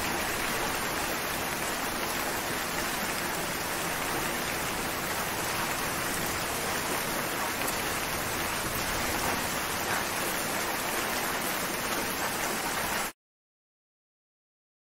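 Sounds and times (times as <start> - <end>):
steady rain falling: 0.0 - 13.2.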